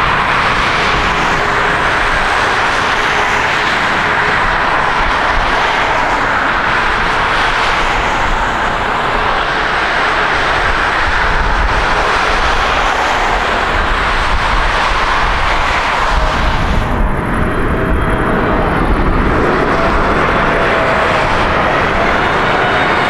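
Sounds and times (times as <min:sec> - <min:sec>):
jet engines roaring at takeoff: 0:00.0 - 0:23.0.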